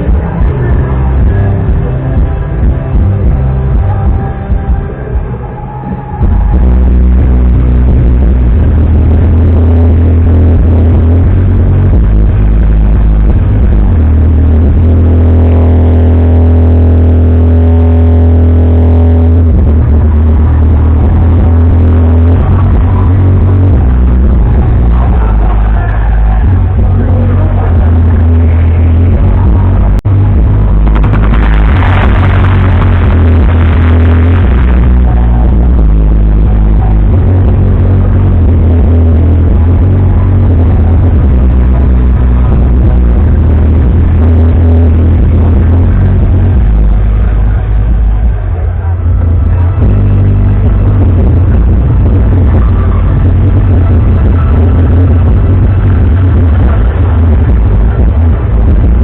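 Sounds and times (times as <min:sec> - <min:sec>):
loud music with heavy bass: 0:00.0 - 0:59.0.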